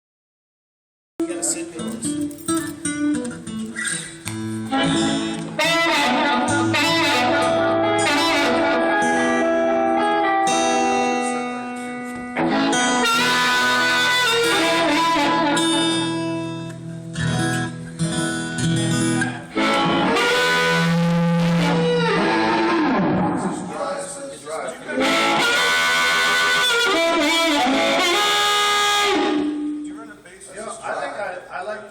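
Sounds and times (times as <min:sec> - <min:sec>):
blues guitar playing: 0:01.2 - 0:24.1, 0:24.8 - 0:30.1.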